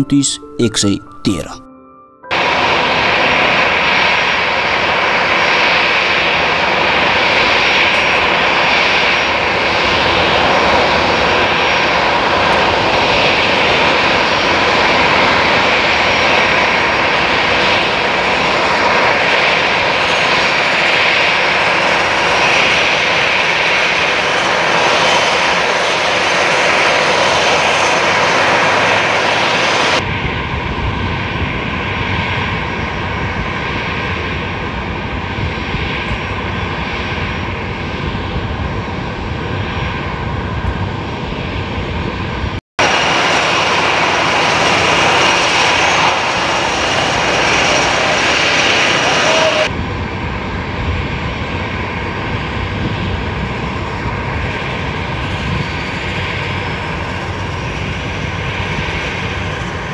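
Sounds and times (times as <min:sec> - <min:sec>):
jet engines rushing: 0:02.4 - 0:59.9.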